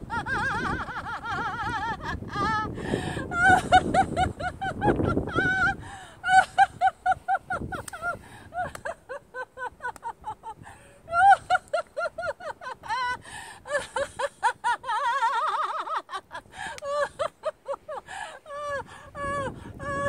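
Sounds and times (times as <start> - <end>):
woman laughing: 0.0 - 20.0.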